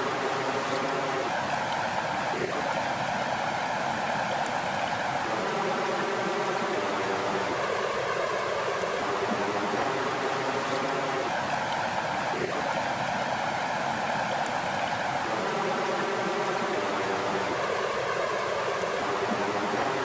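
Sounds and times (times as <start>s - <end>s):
water flowing: 0.0s - 20.0s.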